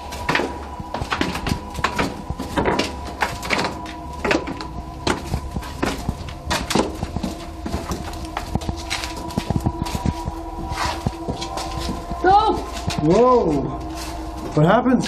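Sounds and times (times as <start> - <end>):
faint steady whine: 0.0 - 15.0
footsteps on stone steps: 0.0 - 15.0.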